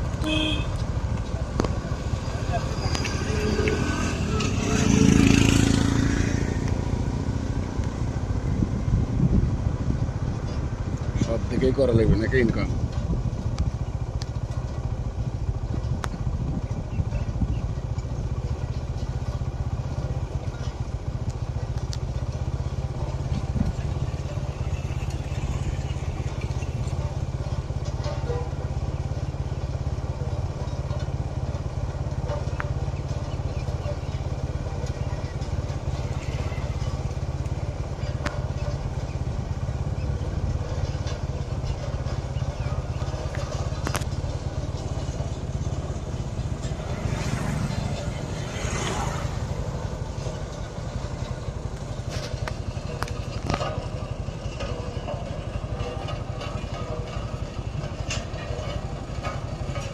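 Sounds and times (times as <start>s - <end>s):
road roller engine running: 0.0s - 59.9s.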